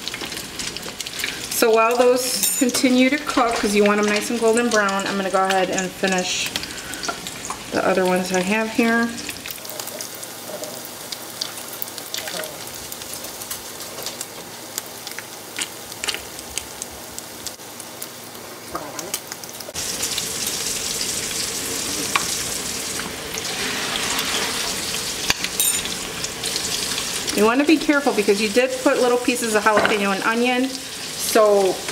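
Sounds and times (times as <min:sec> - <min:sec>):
food frying in hot oil: 0:00.0 - 0:31.9.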